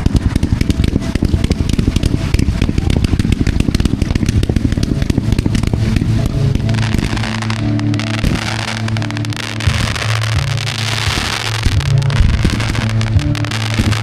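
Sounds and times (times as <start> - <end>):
fireworks crackling pops: 0.0 - 14.0
steady low hum: 0.0 - 14.0.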